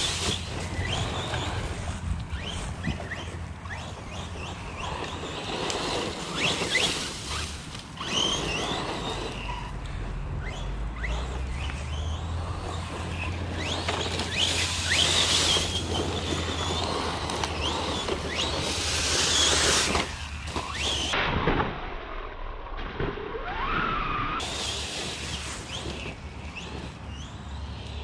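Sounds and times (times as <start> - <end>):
rc car electric motor whining: 0.0 - 21.2, 23.3 - 28.0
steady rush of noise: 0.0 - 22.7, 24.0 - 28.0.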